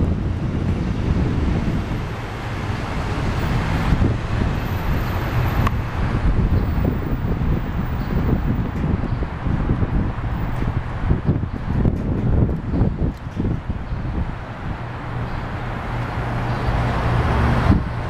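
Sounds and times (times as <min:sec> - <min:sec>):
street traffic hum: 0:00.0 - 0:18.0
wind buffeting microphone: 0:00.0 - 0:18.0.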